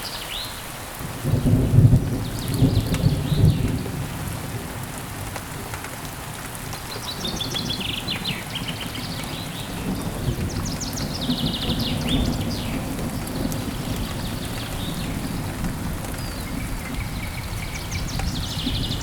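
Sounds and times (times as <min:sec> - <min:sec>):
steady rain: 0:00.0 - 0:19.0
low rumble of thunder: 0:01.0 - 0:19.0.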